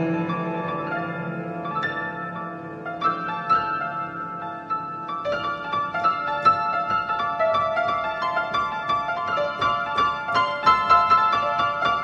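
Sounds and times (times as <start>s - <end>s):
upright piano improvising: 0.0s - 12.0s.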